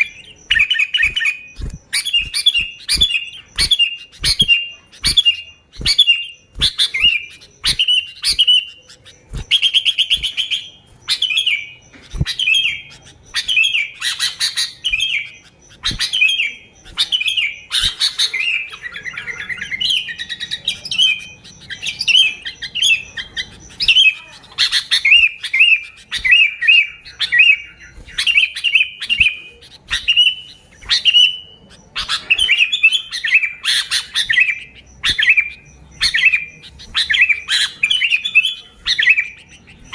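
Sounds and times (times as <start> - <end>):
bulbul chirping: 0.0 - 39.9.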